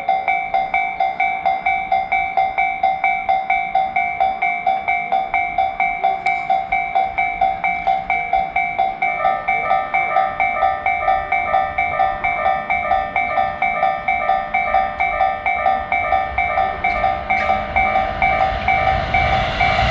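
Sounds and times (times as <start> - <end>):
railroad crossing bell: 0.0 - 19.9.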